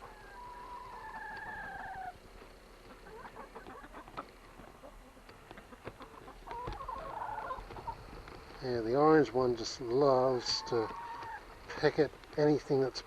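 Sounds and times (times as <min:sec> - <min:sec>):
hens clucking: 0:00.0 - 0:12.9.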